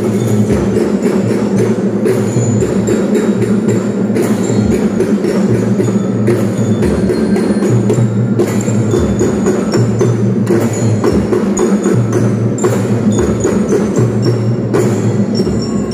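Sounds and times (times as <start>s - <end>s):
metallic bell melody: 0.0s - 15.9s
steady drum beat: 0.0s - 15.9s.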